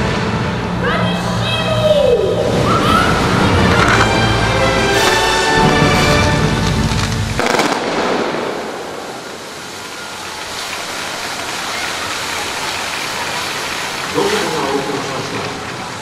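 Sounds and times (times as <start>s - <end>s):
distant crowd applause: 2.9s - 16.0s.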